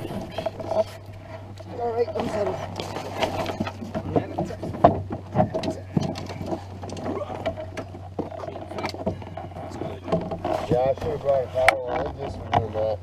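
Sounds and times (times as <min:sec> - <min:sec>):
knocks and scrapes on canoe: 0:00.0 - 0:13.0.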